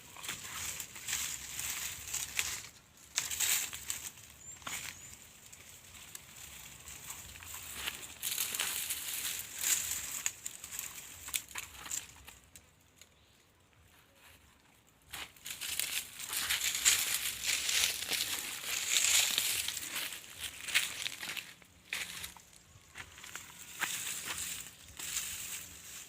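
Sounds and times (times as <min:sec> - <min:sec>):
dry plants crackling and rustling: 0:00.0 - 0:26.0.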